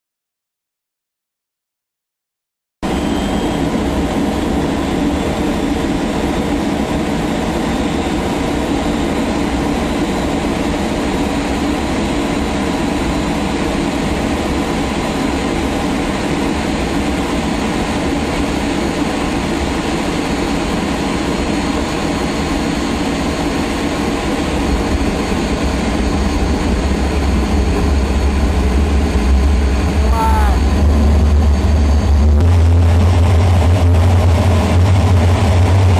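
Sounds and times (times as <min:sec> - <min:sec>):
jet engine starting up: 0:02.8 - 0:35.9.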